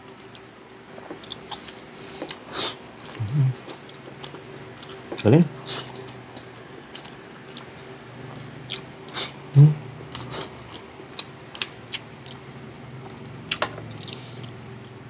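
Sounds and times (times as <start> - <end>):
person chewing food: 0.1 - 15.0.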